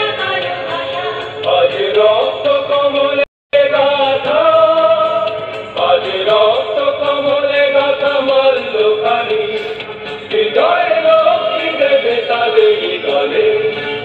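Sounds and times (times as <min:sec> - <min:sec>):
dance music: 0:00.0 - 0:14.0.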